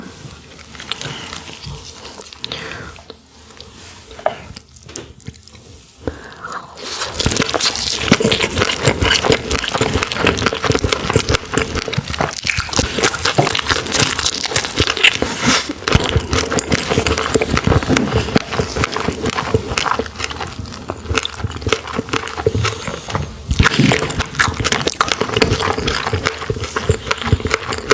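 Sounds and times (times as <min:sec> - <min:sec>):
crackling crunch of chewing: 0:00.1 - 0:05.8, 0:06.8 - 0:27.9.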